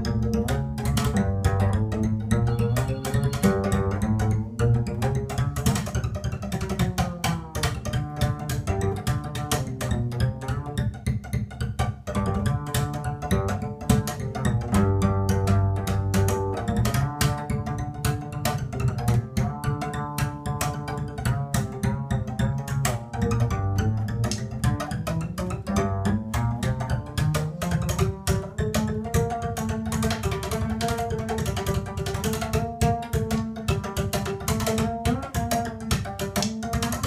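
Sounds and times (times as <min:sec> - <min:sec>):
drumsticks clicking on bass strings: 0:00.0 - 0:37.0
jazz bass line: 0:00.0 - 0:37.0.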